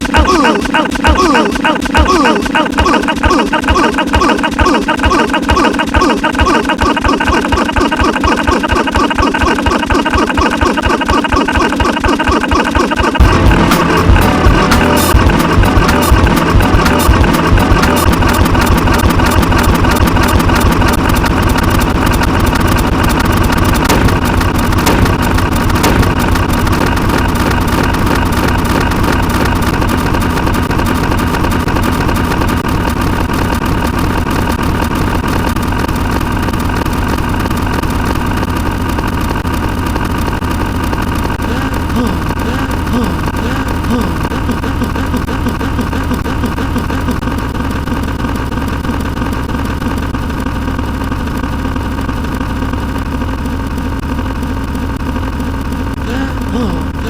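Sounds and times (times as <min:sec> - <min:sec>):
many layered sound effects: 0:00.0 - 0:57.0.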